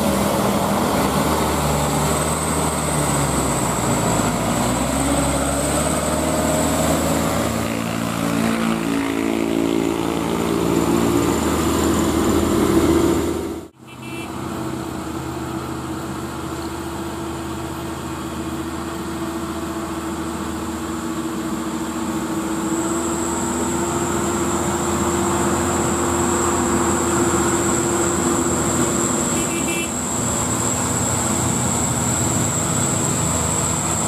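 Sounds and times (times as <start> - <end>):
truck diesel engine climbing hill: 0.0 - 34.0.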